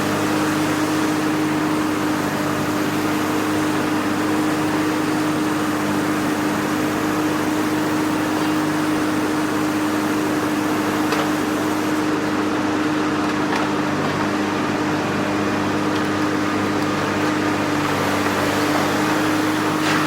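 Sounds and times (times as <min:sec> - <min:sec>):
excavator engine hum: 0:00.0 - 0:20.0.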